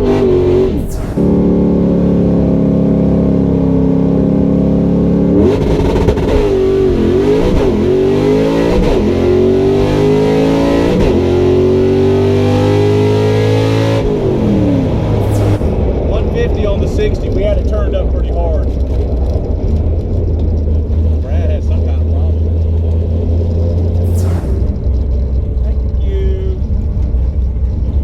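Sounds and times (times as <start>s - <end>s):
drag car engine revving: 0.0s - 28.0s.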